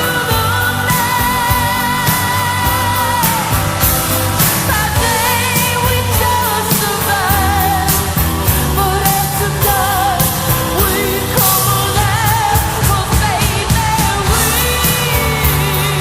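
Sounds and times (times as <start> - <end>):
rock-pop band playing: 0.0 - 16.0
woman singing: 0.0 - 16.0.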